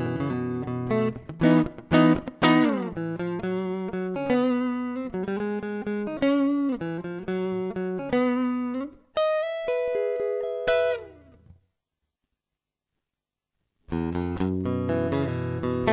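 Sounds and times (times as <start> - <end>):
electric guitar notes and chords: 0.0 - 11.4, 13.9 - 15.9.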